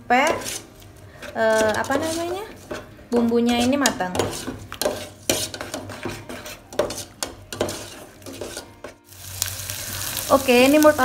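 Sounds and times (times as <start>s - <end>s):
spoon scraping metal pot: 0.2s - 9.0s.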